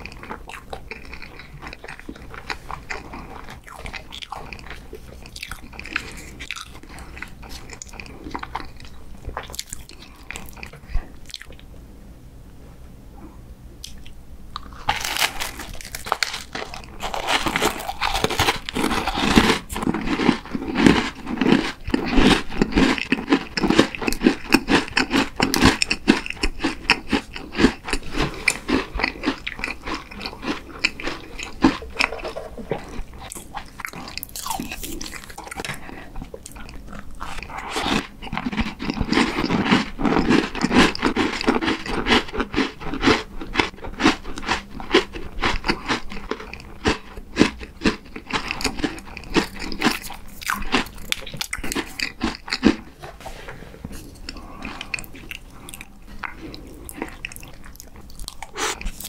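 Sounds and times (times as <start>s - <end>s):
chewing crunchy cookie: 0.0s - 11.7s, 13.8s - 53.3s, 53.9s - 59.0s
chewing soft cake: 0.0s - 11.7s, 13.2s - 59.0s.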